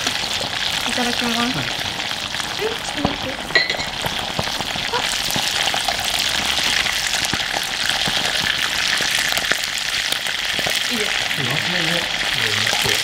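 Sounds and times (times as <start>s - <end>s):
eel frying in hot oil: 0.0s - 13.0s.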